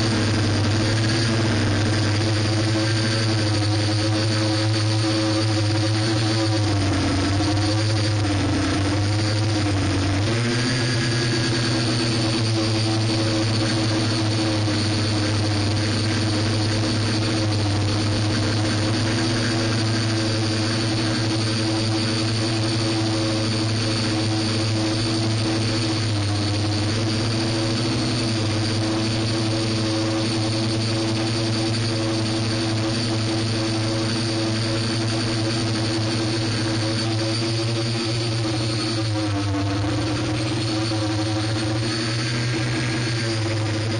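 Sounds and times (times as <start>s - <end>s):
faint high whine: 0.0s - 43.9s
model aircraft motor drone: 0.0s - 43.9s.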